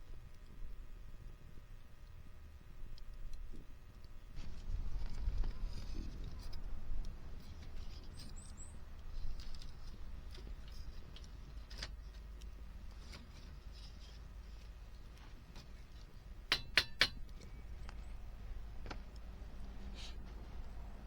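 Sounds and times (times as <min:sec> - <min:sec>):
wood fire crackling: 0:00.0 - 0:20.8.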